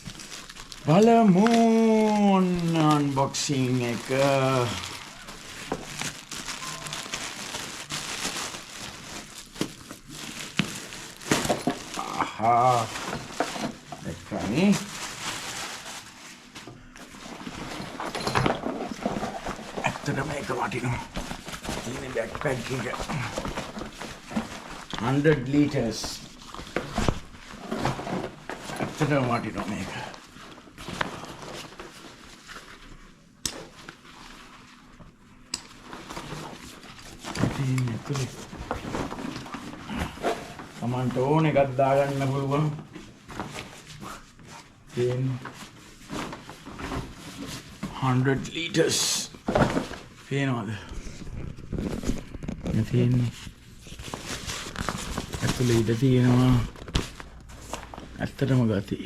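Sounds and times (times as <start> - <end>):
plastic packaging crinkling: 0.0 - 35.1, 35.7 - 58.9.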